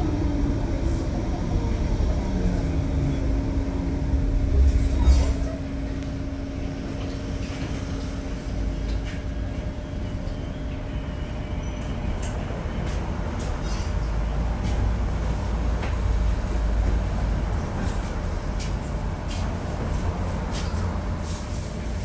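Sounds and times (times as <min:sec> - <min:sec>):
tram wheels rumbling on rail: 0:00.0 - 0:22.0.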